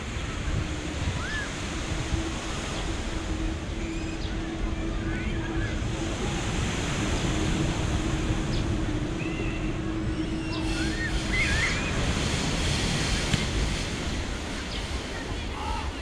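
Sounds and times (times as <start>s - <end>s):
electric locomotive rumbling past: 0.0s - 15.4s
steady hum: 0.0s - 16.0s
surf: 0.0s - 16.0s
wind on microphone: 0.0s - 16.0s.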